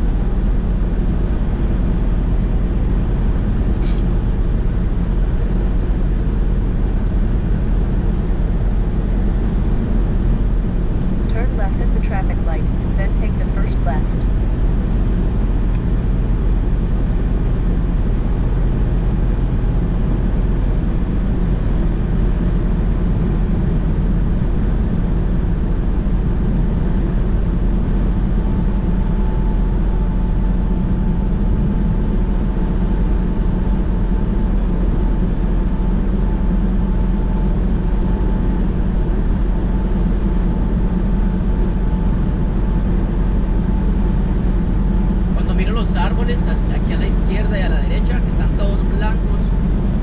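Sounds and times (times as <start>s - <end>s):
truck diesel engine drone: 0.0s - 50.0s.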